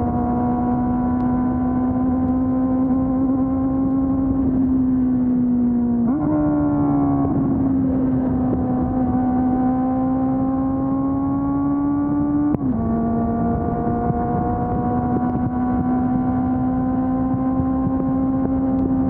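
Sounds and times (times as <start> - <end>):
motorcycle engine riding: 0.0 - 19.0.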